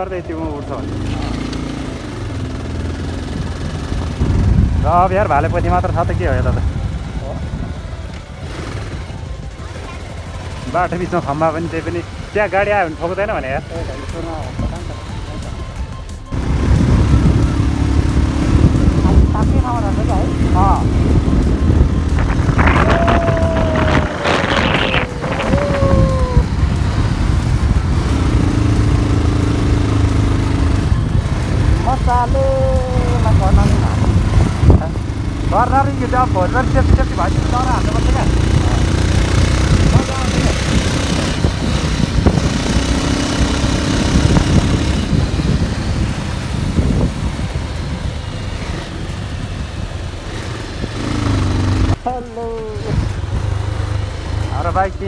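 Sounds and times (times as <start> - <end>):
motorcycle engine running: 0.0 - 55.0
road and wind rumble: 0.0 - 55.0.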